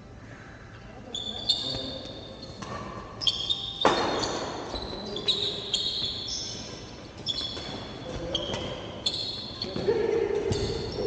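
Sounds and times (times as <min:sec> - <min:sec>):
shoes squeaking on indoor court: 0:01.0 - 0:11.0.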